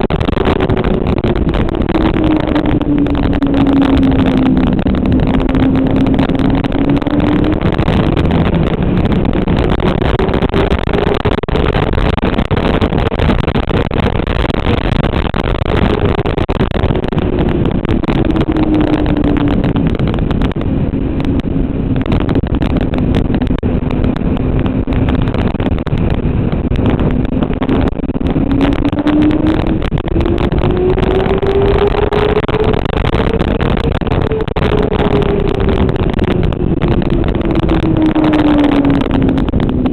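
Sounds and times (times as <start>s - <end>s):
motorcycle engine at speed: 0.0s - 39.9s
wind noise on microphone: 0.0s - 39.9s.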